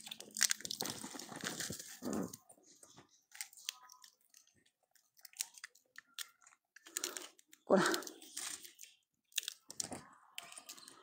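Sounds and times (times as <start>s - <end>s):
peanut shells cracking: 0.0s - 11.0s.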